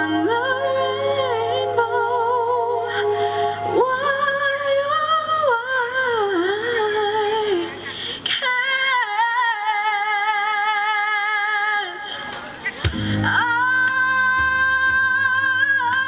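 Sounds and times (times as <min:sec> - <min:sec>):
woman singing with vibrato: 0:00.0 - 0:12.3, 0:12.9 - 0:16.0.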